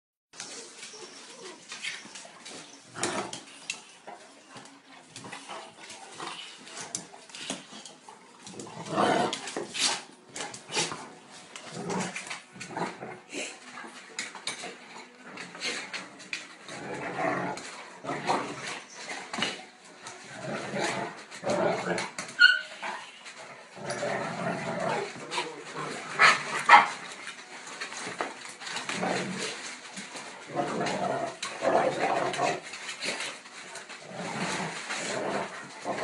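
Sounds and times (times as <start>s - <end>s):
claws clicking on tiled floor: 0.4s - 36.0s
dogs growling and snarling: 1.3s - 36.0s.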